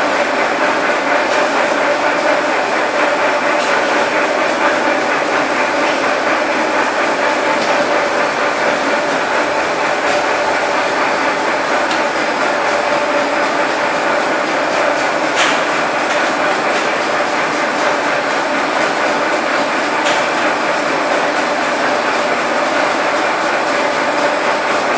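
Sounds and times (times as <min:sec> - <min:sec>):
production line machinery hum: 0:00.0 - 0:24.9.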